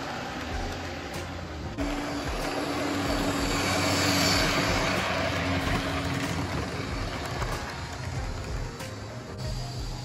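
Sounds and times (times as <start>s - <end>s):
wheels rumbling on rail: 0.0s - 10.0s
model train motor hum: 1.8s - 10.0s.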